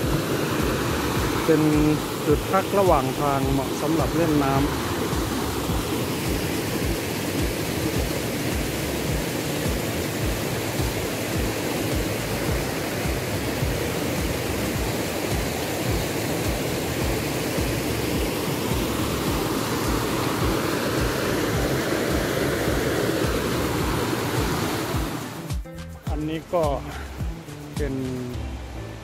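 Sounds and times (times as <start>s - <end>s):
stream rushing through rapids: 0.0s - 25.6s.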